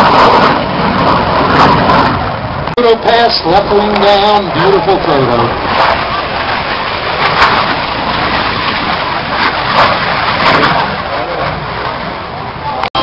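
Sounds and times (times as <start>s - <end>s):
airplane engine low pass: 0.0s - 13.0s.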